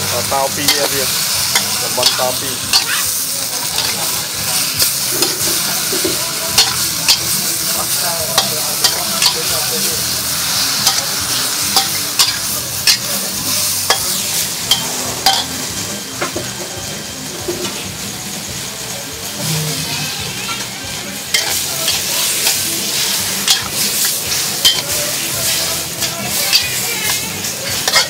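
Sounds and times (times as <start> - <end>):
food sizzling in a wok: 0.0 - 28.0
metal spatula scraping a wok: 0.3 - 15.6, 19.4 - 20.7, 21.3 - 28.0.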